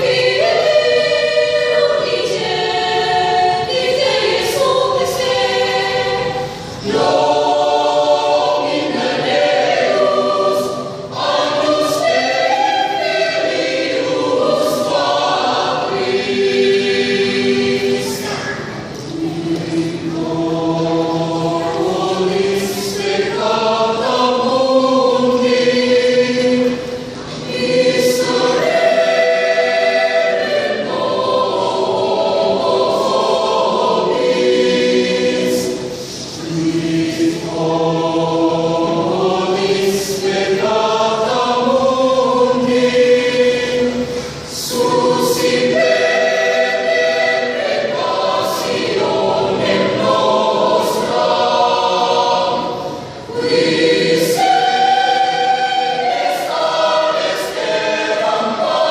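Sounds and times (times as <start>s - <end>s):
choir singing in harmony: 0.0s - 58.9s.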